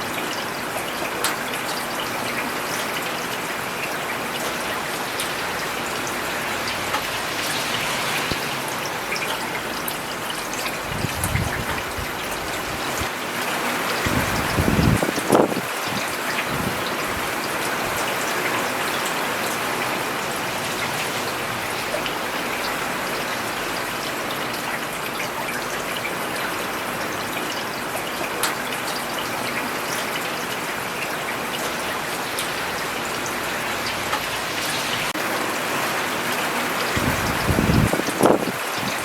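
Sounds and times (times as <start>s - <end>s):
rain falling on a road: 0.0s - 39.0s.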